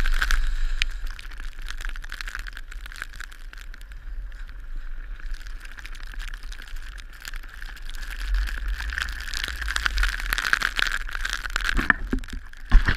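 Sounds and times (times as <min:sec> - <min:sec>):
wind rumbling on microphone: 0:00.0 - 0:12.9.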